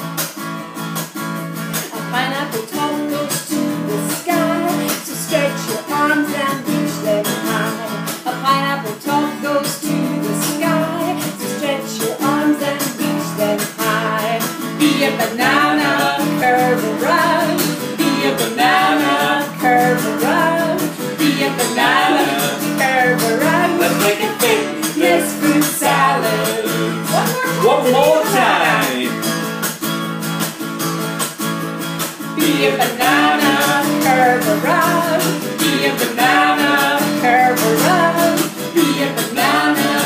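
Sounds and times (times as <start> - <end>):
acoustic guitar strumming: 0.0 - 40.0
woman singing: 1.8 - 29.2, 32.4 - 40.0.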